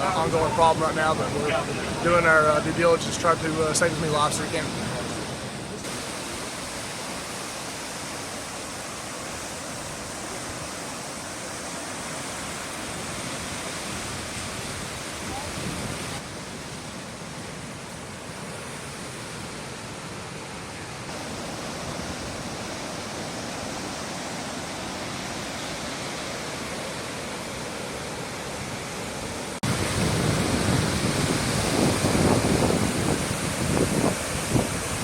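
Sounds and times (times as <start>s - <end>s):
floodwater rushing in river: 0.0s - 35.0s.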